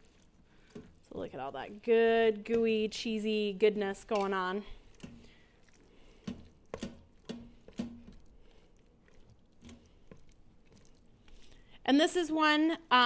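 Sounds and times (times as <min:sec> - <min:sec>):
spatula squelching and tapping pot: 0:00.0 - 0:11.6.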